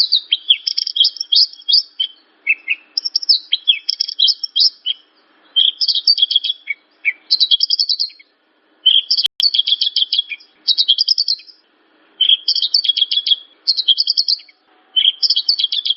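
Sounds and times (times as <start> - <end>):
lark singing chattering notes: 0.0 - 11.6, 12.2 - 15.9.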